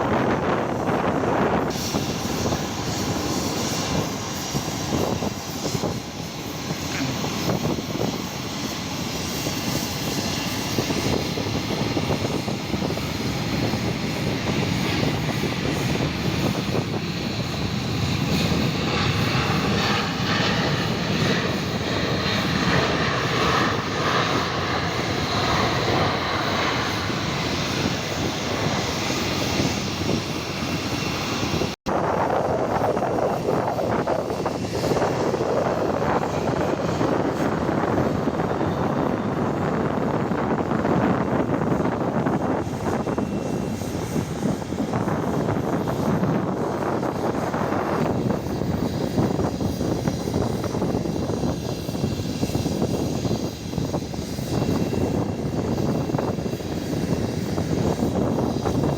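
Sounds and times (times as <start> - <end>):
airliner engines running: 0.0 - 58.9.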